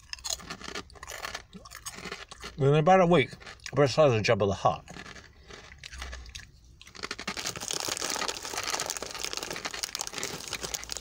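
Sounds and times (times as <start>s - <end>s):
crunching and chewing snacks: 0.0s - 11.0s.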